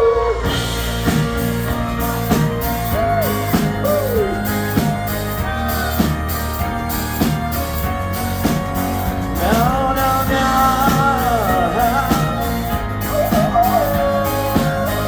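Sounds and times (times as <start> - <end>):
drum kit beat: 0.0 - 15.0
sustained guitar chords: 0.0 - 15.0.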